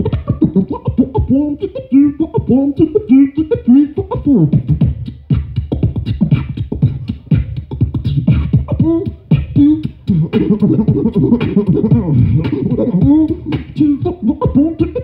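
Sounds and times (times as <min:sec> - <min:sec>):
man beatboxing scratch sounds: 0:00.0 - 0:15.0.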